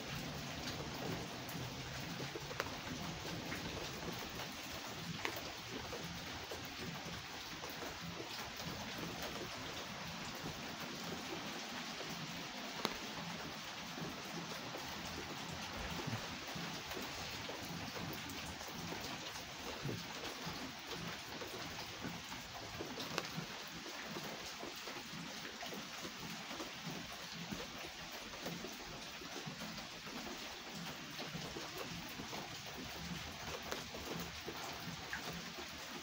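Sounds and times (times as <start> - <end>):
single raindrops ticking: 0.0 - 24.7, 31.0 - 36.0
steady rain: 0.0 - 36.0.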